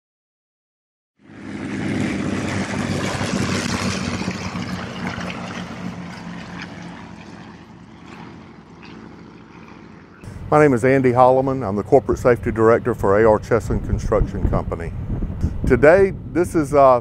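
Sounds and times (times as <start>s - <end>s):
propeller plane flying past: 1.2s - 17.0s.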